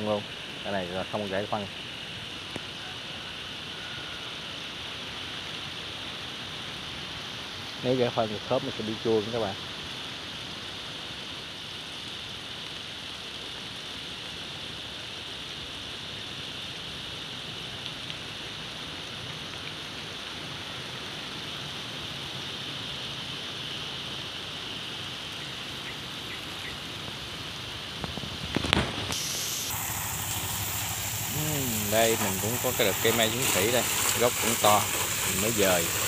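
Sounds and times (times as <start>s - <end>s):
garden hose spraying water: 0.0s - 36.0s.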